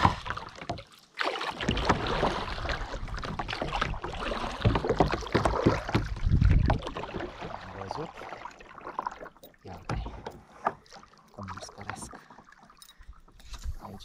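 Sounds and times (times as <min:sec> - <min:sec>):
paddle strokes splashing: 0:00.0 - 0:12.8.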